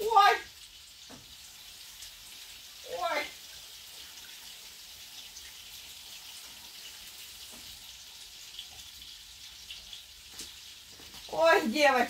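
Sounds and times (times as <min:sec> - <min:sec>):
cutlets sizzling in a pan: 0:00.0 - 0:12.0.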